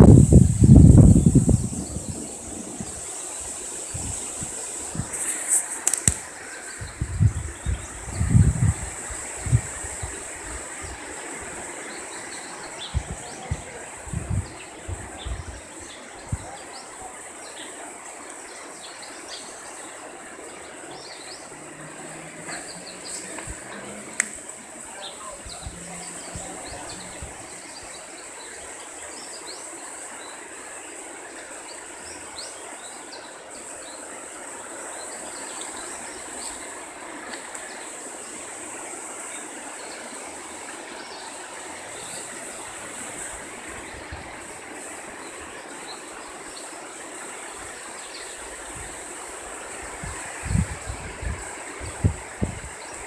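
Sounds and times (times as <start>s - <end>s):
high insect drone: 0.0s - 53.0s
rushing outdoor noise: 0.0s - 53.0s.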